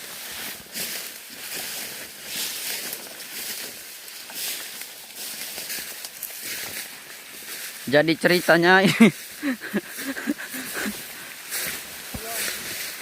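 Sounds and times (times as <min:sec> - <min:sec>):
leaves and undergrowth rustling: 0:00.0 - 0:13.0.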